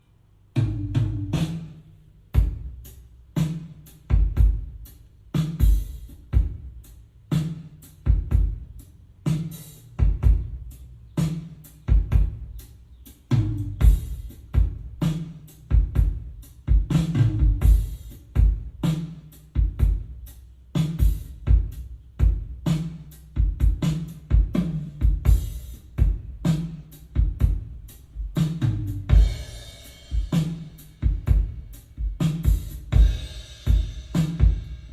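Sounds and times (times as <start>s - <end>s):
drum groove with bass line: 0.4s - 34.9s.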